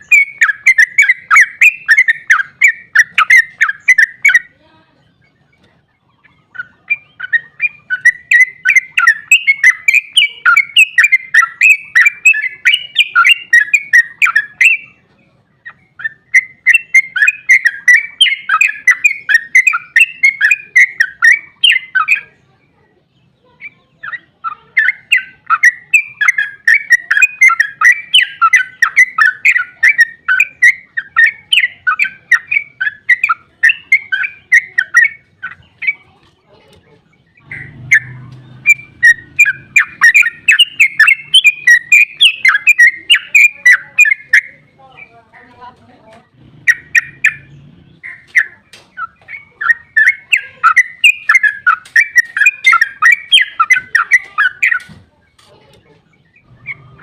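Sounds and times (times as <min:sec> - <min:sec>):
bulbul chattering song: 0:00.0 - 0:57.0.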